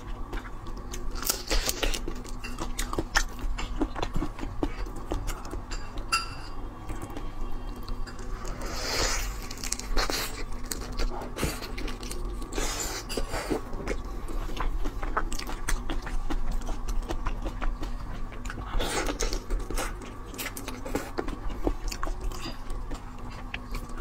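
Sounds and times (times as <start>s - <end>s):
biting and chewing: 0.0s - 6.1s, 6.8s - 24.0s.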